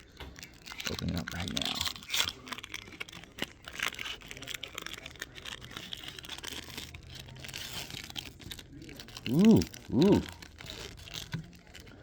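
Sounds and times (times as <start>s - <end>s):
wrapper tearing and crinkling: 0.0s - 12.0s.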